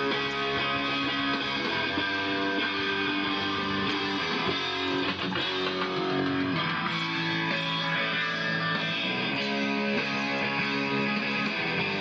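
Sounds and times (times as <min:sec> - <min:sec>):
electric guitar strumming chords: 0:00.0 - 0:12.0.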